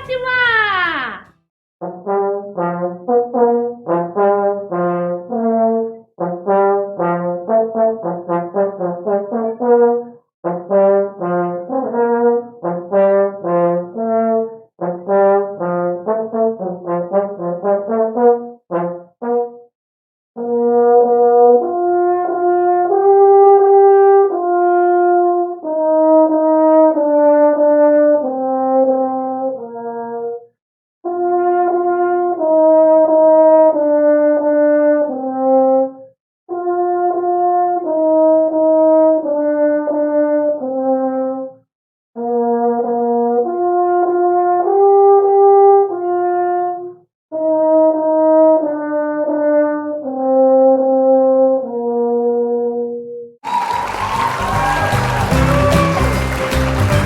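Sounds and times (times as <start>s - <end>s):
french horn melody: 1.8s - 19.5s, 20.4s - 30.4s, 31.1s - 41.5s, 42.2s - 51.2s.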